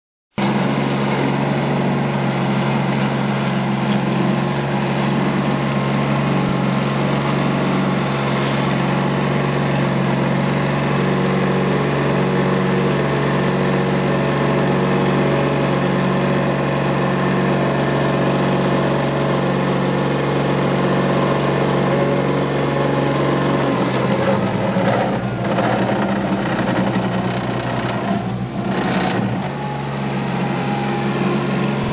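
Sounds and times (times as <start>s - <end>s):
asphalt roller engine running: 0.4s - 31.9s.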